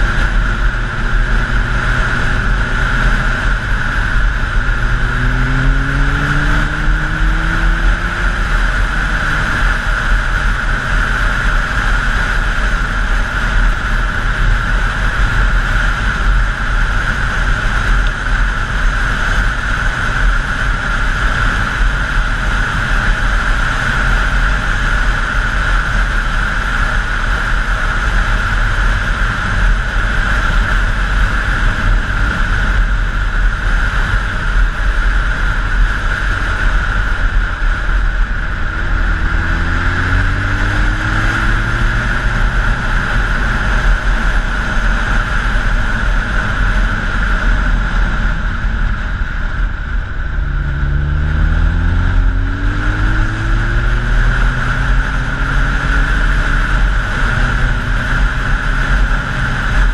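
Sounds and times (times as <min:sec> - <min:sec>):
motorcycle engine accelerating: 0:00.0 - 0:59.9
wind noise: 0:00.0 - 0:59.9.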